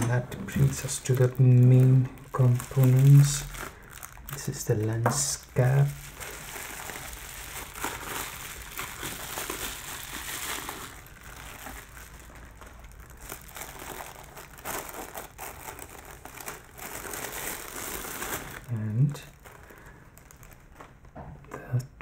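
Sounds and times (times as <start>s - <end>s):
plastic crinkling and rustling: 0.0s - 21.8s.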